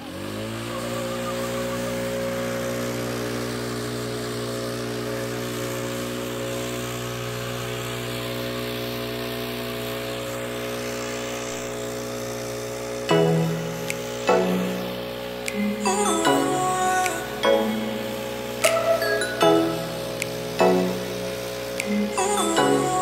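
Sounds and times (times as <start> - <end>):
leaf blower engine running: 0.0 - 23.0.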